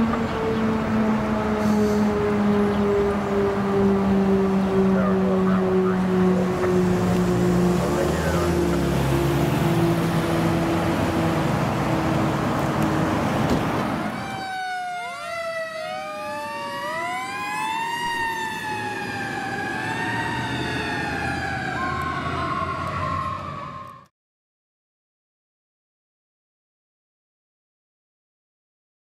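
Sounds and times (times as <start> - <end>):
fire engine siren wailing: 0.0 - 24.1
street traffic noise: 0.0 - 24.1.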